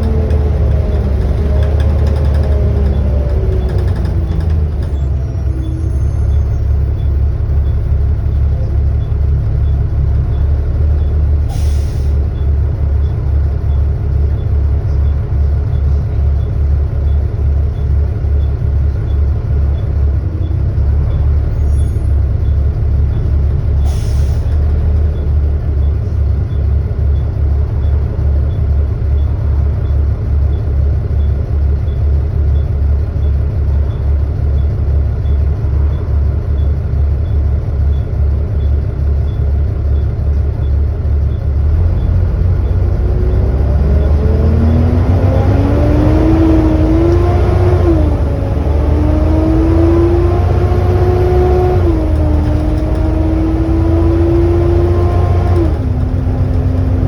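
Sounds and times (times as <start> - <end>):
bus diesel engine throbbing: 0.0 - 57.0.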